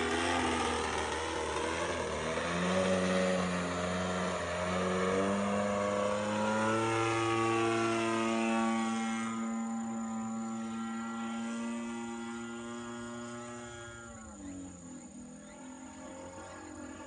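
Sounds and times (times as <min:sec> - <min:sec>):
model plane engine buzzing: 0:00.0 - 0:17.0.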